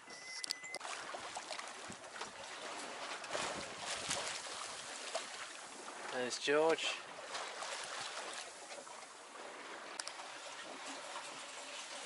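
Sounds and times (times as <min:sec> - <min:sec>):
water splashing along boat hull: 0:00.0 - 0:12.0.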